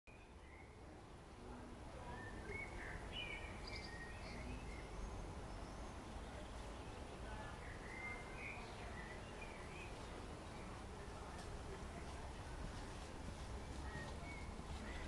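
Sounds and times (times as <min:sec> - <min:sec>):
small birds chirping: 0:00.1 - 0:01.1, 0:02.0 - 0:15.0
low outdoor background noise: 0:00.1 - 0:15.0.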